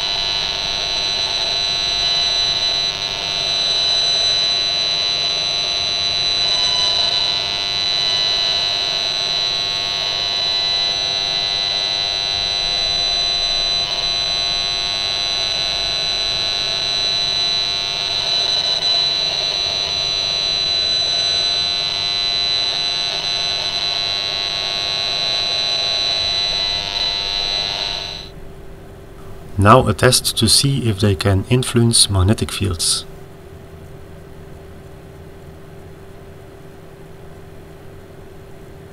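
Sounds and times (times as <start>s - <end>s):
steady buzzing tone from speaker: 0.0s - 38.9s.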